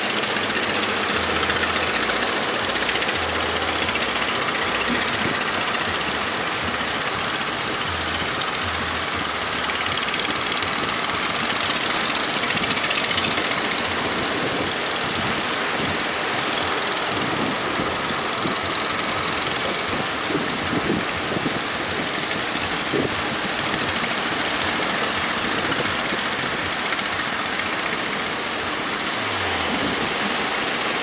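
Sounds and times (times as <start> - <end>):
boat engines running: 0.0 - 31.0
breaking surf: 0.0 - 31.0
wind: 0.0 - 31.0.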